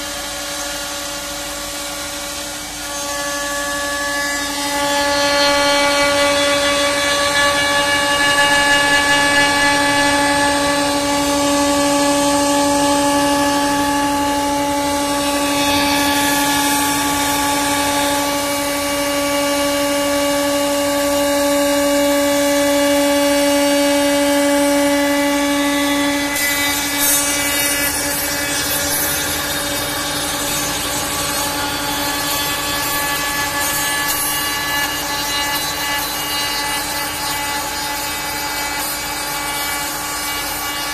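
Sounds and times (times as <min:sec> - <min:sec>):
router spindle whining: 0:00.0 - 0:40.9.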